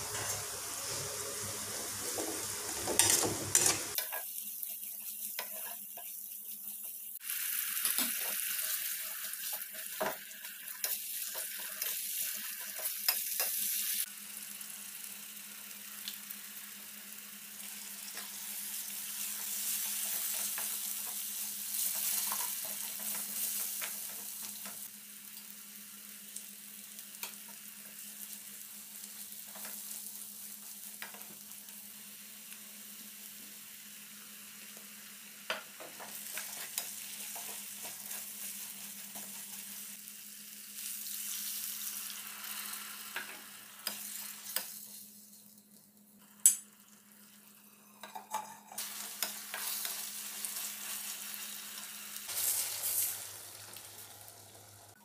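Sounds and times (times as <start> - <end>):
masala sizzling in hot oil: 0.0 - 55.0.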